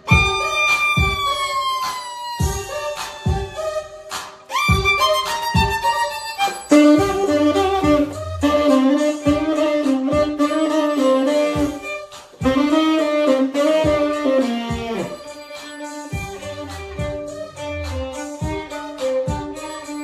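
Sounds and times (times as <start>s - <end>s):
steady drum beat: 0.0s - 1.6s, 2.4s - 20.0s
saxophone melody: 0.0s - 20.0s
violin: 0.0s - 20.0s.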